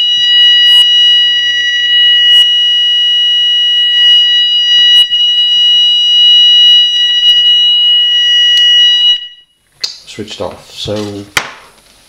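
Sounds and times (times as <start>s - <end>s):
high-pitched continuous alarm tone: 0.0s - 9.7s.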